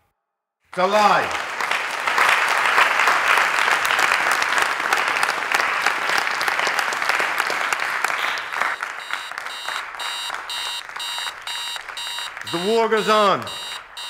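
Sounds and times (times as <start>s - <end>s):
crowd applauding: 0.8s - 14.0s.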